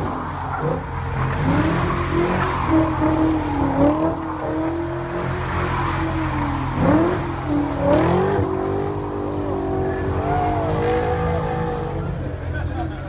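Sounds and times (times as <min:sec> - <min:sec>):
car engine throttle blips: 0:00.0 - 0:13.0.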